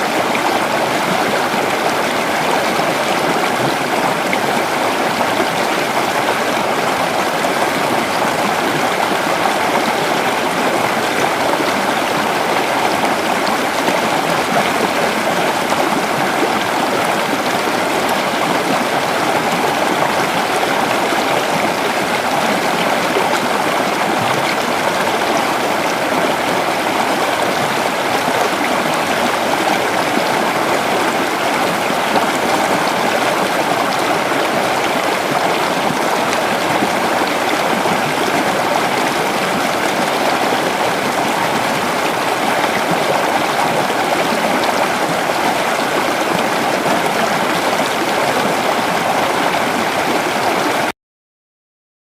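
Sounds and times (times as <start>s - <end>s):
creek water rushing and gurgling: 0.0s - 50.9s.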